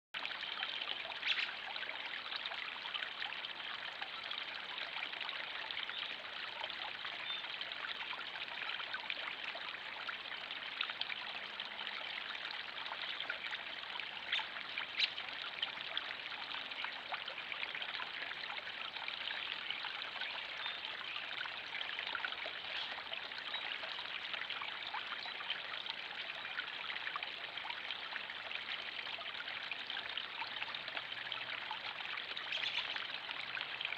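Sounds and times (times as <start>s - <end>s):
water trickling and splashing: 0.2s - 33.9s.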